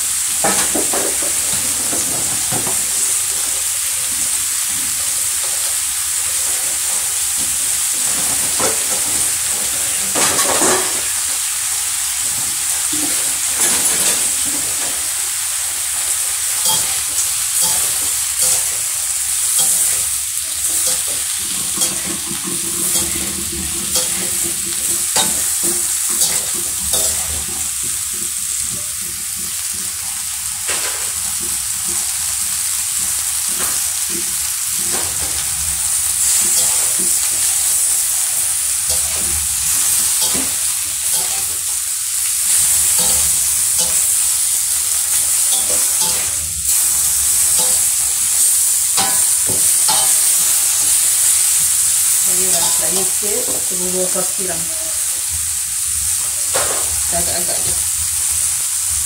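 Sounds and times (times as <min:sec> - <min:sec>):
greens sizzling in a wok: 0:00.0 - 0:59.0.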